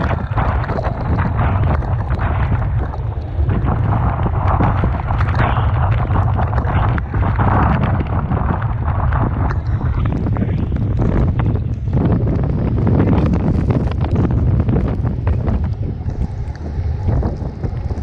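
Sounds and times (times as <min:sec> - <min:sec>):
crackling spray: 0:00.0 - 0:18.0
wind buffeting microphone: 0:00.0 - 0:18.0.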